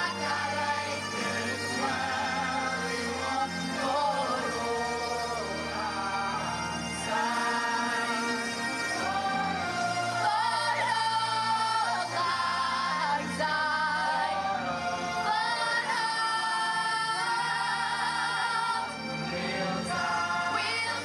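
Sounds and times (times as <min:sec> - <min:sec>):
low musical accompaniment: 0:00.0 - 0:21.0
singing with long wavering notes: 0:00.0 - 0:21.0.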